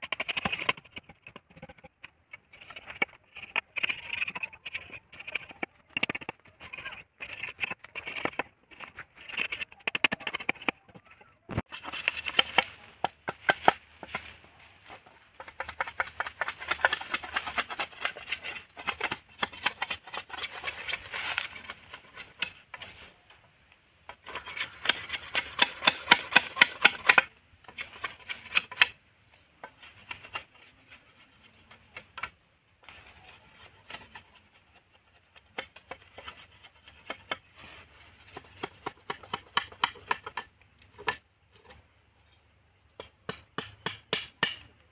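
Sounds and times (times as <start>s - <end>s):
machete scraping bamboo: 0.0s - 10.8s, 11.5s - 23.3s, 24.1s - 41.9s.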